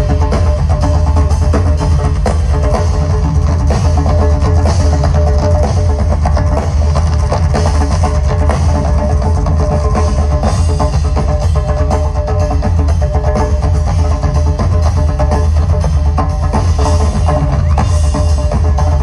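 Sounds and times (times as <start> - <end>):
drum kit beat: 0.0 - 19.0
heavy bass: 0.0 - 19.0.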